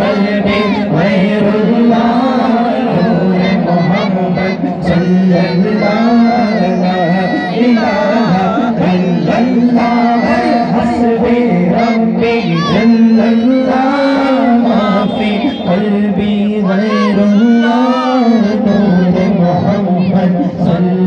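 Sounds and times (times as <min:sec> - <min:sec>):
men singing devotional song: 0:00.0 - 0:21.0.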